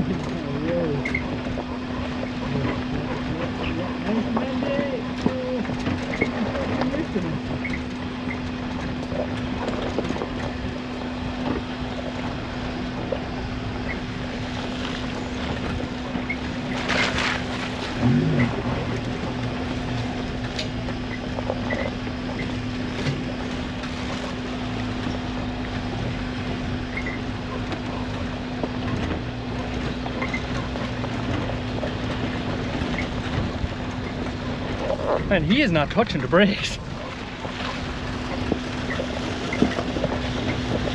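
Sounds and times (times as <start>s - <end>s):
car engine running in cabin: 0.0s - 40.9s
rumble and knocks from rough track: 0.0s - 40.9s.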